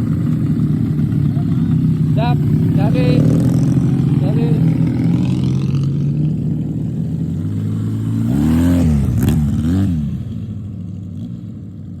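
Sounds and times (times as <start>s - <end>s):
mini motorbike engine revving: 0.0s - 10.3s.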